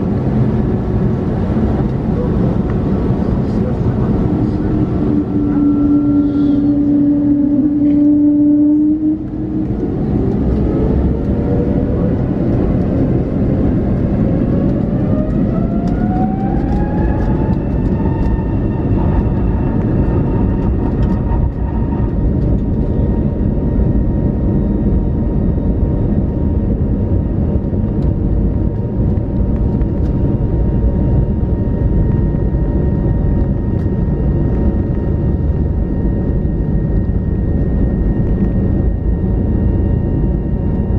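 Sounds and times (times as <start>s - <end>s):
takeoff roll rumbling: 0.0s - 40.9s
jet engines spooling up: 0.2s - 40.9s.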